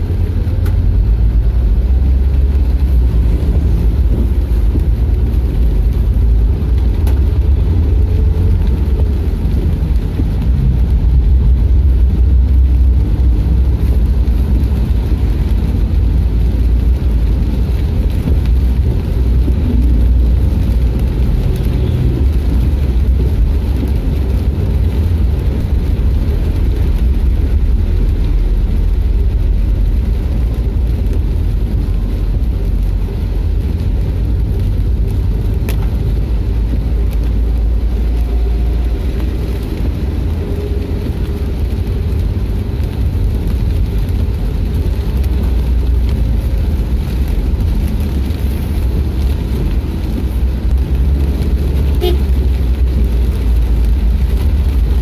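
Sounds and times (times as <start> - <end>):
vehicle rumble from inside cab: 0.0 - 55.0.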